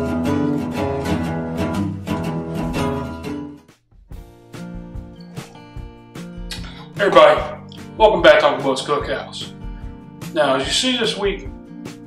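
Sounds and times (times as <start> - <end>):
plucked string theme music: 0.0 - 12.0.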